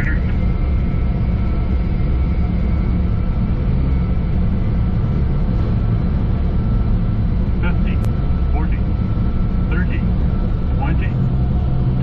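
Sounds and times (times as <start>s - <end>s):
faint steady whine: 0.0s - 12.0s
jet engines rumbling: 0.0s - 12.0s.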